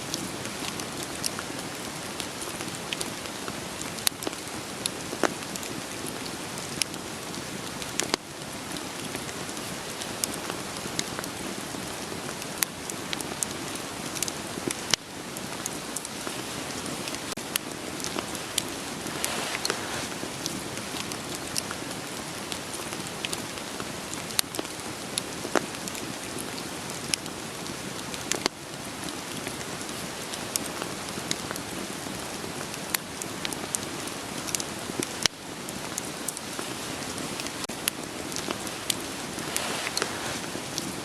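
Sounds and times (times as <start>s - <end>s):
steady rain: 0.0s - 41.0s
wood fire crackling: 0.0s - 41.0s.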